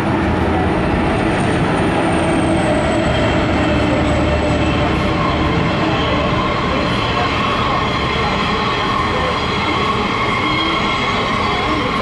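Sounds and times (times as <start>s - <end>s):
freight train wagons rumbling: 0.0s - 12.0s
high wheel squeal: 1.3s - 12.0s.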